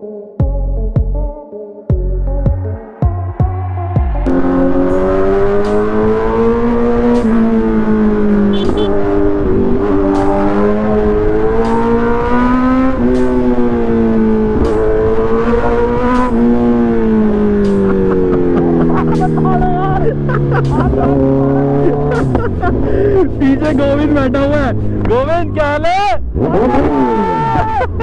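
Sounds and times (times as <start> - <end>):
motorcycle engine and loud exhaust: 4.2 - 27.8.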